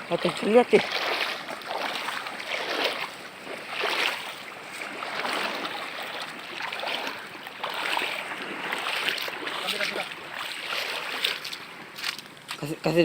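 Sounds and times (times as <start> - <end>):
small waves washing against shore: 0.0 - 12.9.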